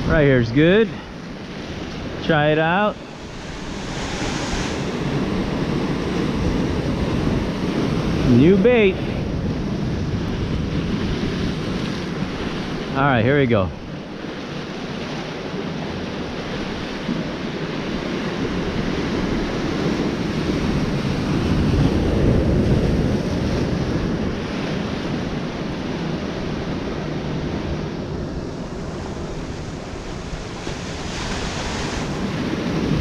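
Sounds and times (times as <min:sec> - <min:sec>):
ocean surf on shore: 0:00.0 - 0:33.0
wind buffeting microphone: 0:00.0 - 0:33.0.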